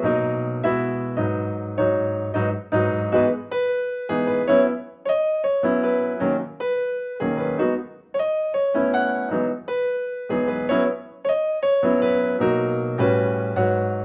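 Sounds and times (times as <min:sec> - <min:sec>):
piano-like keyboard music: 0:00.0 - 0:14.0.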